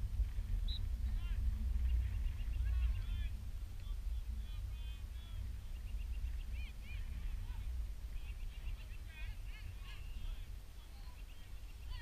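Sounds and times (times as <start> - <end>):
distant birds calling: 0.0 - 12.0
wind rumbling on microphone: 0.0 - 12.0.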